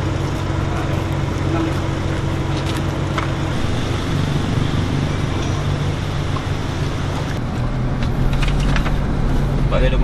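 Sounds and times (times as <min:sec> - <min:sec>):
rushing road and wind noise: 0:00.0 - 0:10.0
vehicle engine humming: 0:00.0 - 0:10.0.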